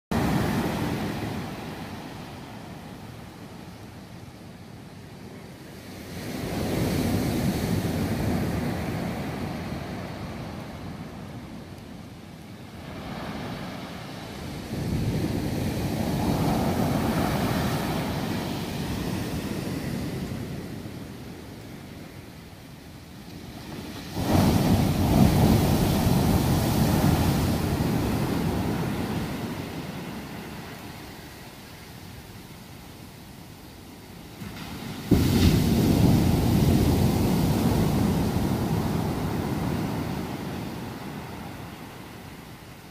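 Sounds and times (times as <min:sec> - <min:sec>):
low hiss of surf: 0:00.1 - 0:42.9
surf washing up the shore: 0:00.1 - 0:42.9
waves crashing on sandy beach: 0:00.1 - 0:42.9.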